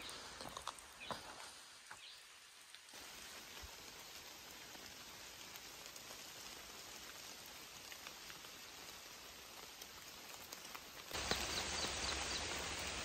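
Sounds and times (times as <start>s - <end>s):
rain falling in woods: 0.0s - 13.0s.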